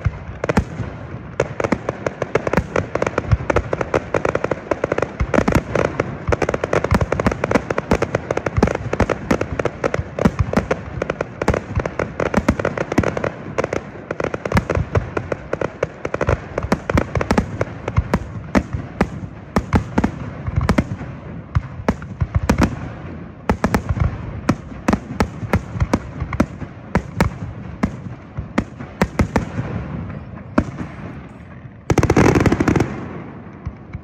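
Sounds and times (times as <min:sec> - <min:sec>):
fireworks bursts and bangs: 0:00.0 - 0:34.0.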